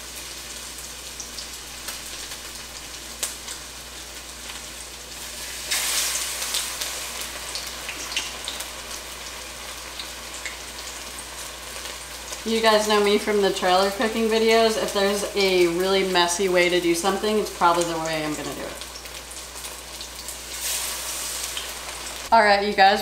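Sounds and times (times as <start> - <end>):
fish frying in hot oil: 0.0 - 22.9.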